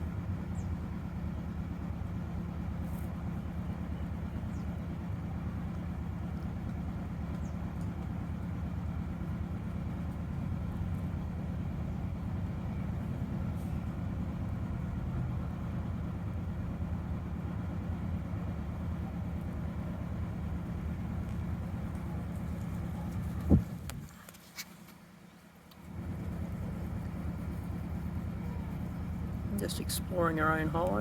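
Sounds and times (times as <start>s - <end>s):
low hum and rumble: 0.0s - 31.0s.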